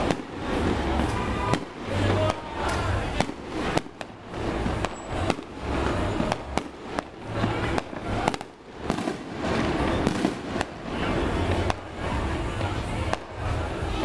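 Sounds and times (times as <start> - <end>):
firework bangs: 0.0 - 14.0
rumble of firework bursts: 0.0 - 14.0.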